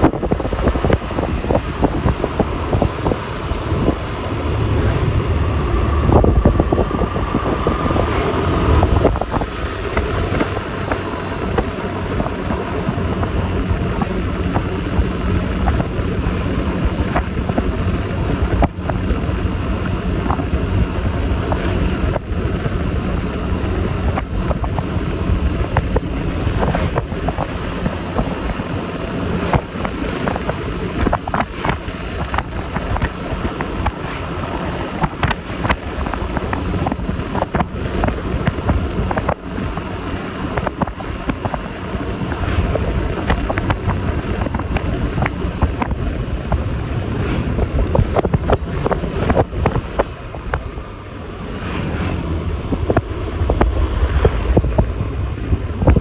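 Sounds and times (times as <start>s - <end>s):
scooter engine running: 0.0s - 51.6s
road noise: 0.0s - 56.0s
wind rushing over microphone: 0.0s - 56.0s.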